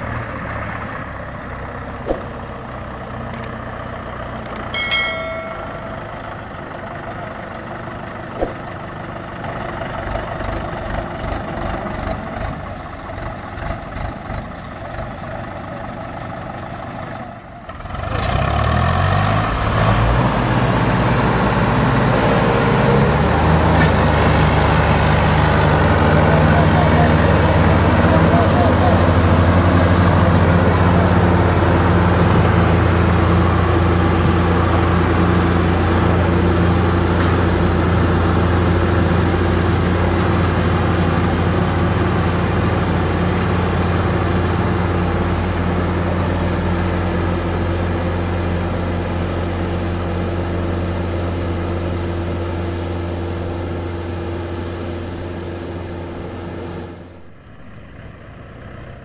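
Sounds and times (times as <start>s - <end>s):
diesel tractor engines under load: 0.0s - 59.0s.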